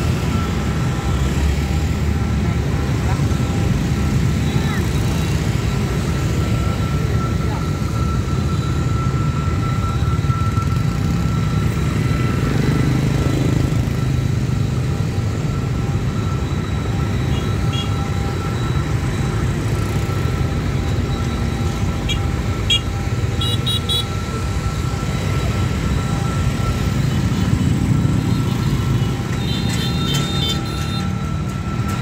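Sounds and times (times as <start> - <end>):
steady high-pitched tone: 0.0 - 32.0.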